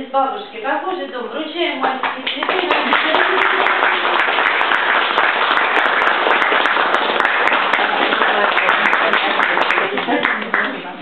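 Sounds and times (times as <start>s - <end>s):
audience clapping: 1.8s - 10.9s.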